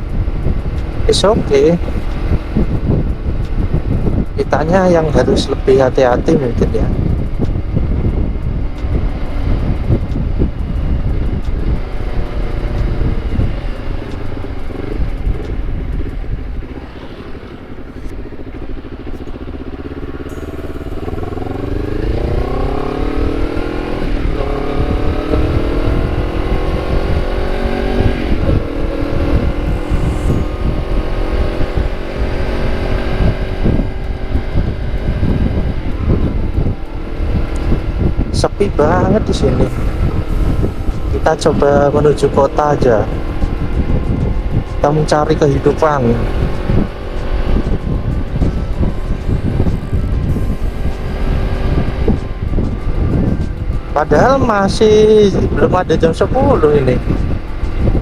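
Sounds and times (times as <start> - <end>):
motorcycle engine accelerating: 0.0 - 58.0
wind buffeting microphone: 0.0 - 58.0.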